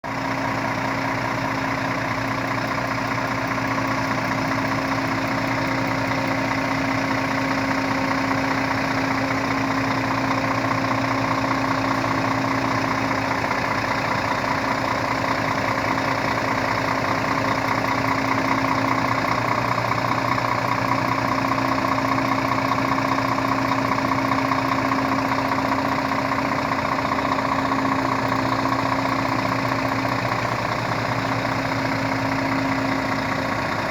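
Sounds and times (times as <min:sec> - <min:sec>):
truck engine idling: 0:00.0 - 0:33.9.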